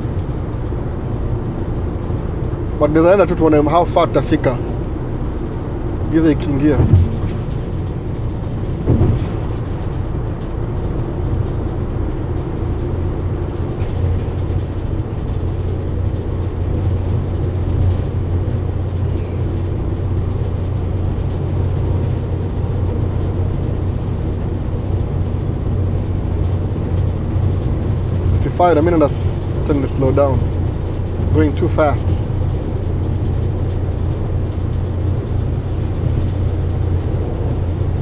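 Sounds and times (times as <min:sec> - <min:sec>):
car cruising road noise: 0:00.0 - 0:38.0.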